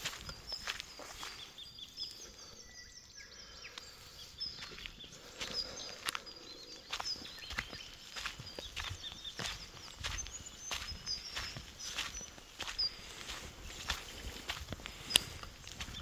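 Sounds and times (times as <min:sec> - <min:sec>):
footsteps on dry ground: 0:00.0 - 0:16.0
small birds chirping: 0:00.0 - 0:16.0.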